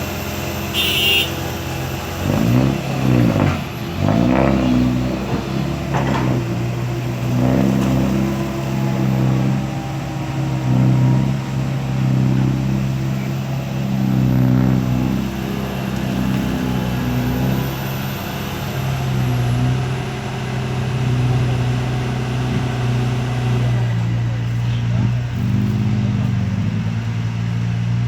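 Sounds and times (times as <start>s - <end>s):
excavator diesel engine under load: 0.0s - 28.0s.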